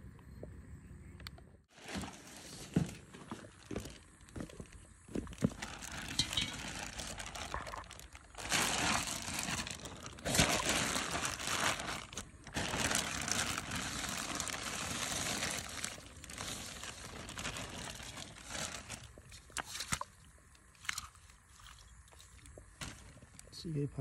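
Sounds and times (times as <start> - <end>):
plastic sheet crinkling: 1.7 - 20.0, 20.8 - 23.5.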